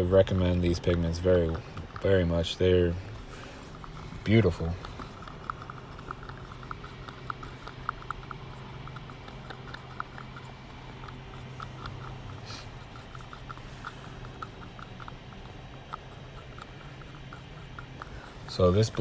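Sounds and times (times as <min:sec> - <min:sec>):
steady low hum: 0:00.0 - 0:19.0
stick stirring in plastic cup: 0:00.0 - 0:19.0.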